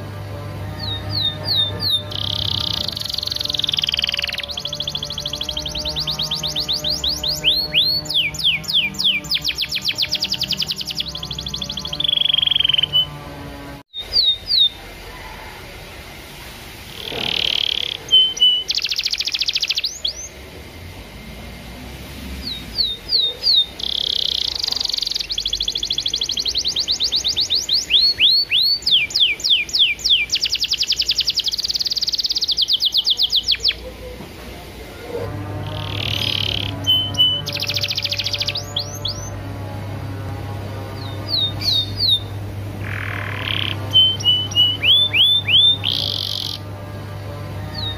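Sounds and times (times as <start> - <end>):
canary singing: 0.0 - 15.5, 16.9 - 20.5, 21.2 - 47.9.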